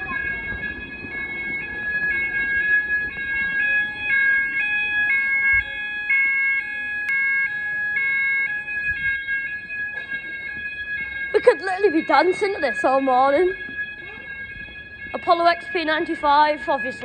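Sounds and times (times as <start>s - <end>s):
fire alarm sounder tones: 0.0s - 17.0s.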